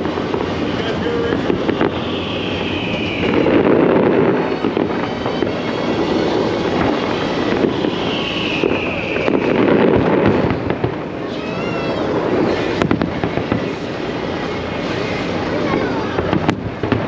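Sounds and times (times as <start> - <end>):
falling firework whistle: 0.0 - 17.0
fireworks bursting and crackling: 0.0 - 17.0
wavering firework whistle: 0.0 - 17.0.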